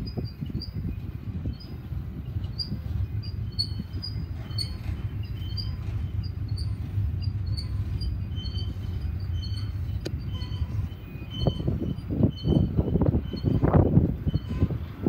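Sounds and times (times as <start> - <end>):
short high squeaks: 0.0 - 15.0
train wheels rumbling on rail: 0.0 - 15.0.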